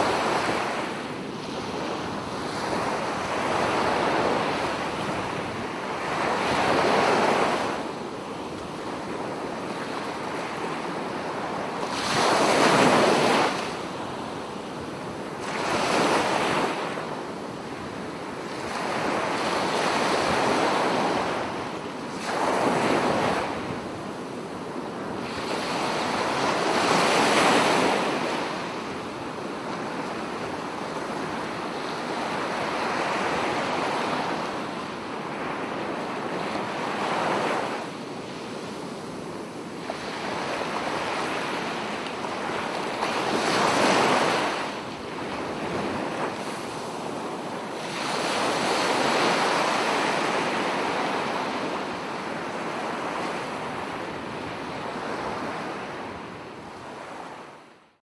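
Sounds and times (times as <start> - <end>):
ocean waves surging and washing back: 0.0 - 58.0.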